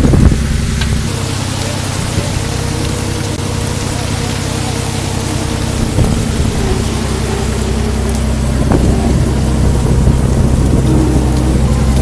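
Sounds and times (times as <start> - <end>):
boat machinery humming: 0.0 - 12.0
steady hiss: 0.0 - 12.0.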